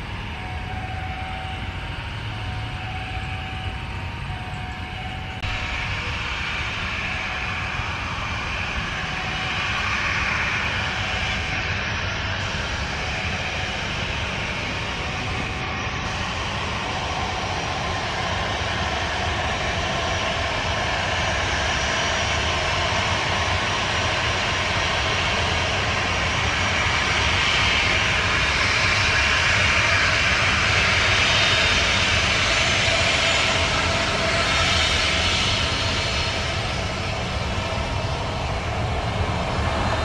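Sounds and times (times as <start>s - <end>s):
jet engines whining at taxi: 0.0s - 40.0s.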